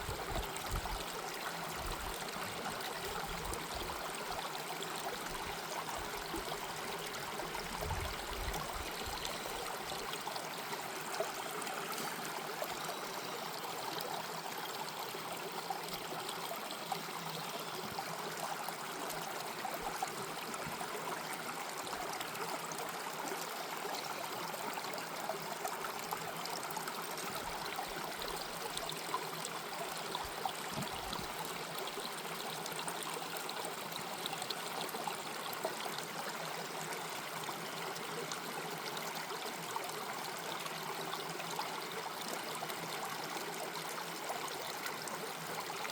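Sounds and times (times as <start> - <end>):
stream flowing: 0.0 - 45.9.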